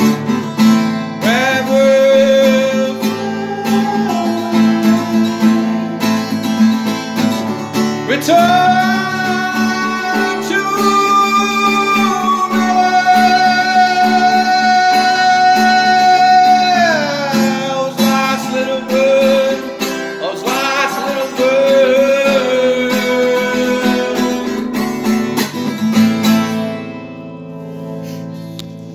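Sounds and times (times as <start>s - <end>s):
strummed acoustic guitar: 0.0s - 28.9s
man singing: 1.2s - 25.3s.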